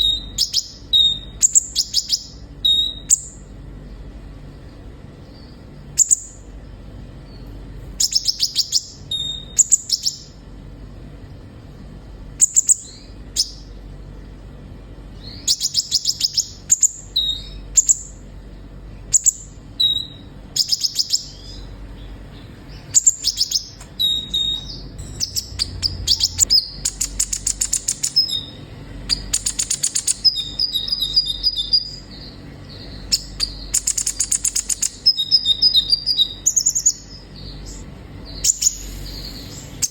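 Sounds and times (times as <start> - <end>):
sunbird singing chirps and trills: 0.0 - 11.0, 12.3 - 39.9.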